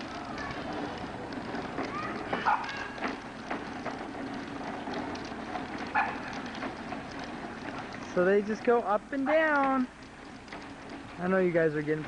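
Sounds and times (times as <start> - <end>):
plastic toy wheels rolling on concrete: 0.0 - 12.0.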